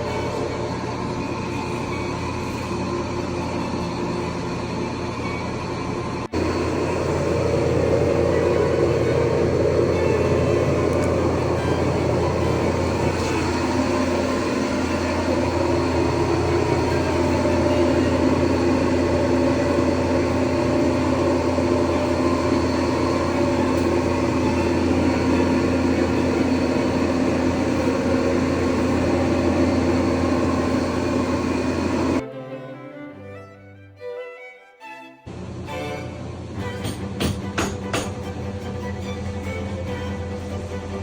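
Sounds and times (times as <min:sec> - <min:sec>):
drying fans running: 0:00.0 - 0:32.2, 0:35.3 - 0:41.0.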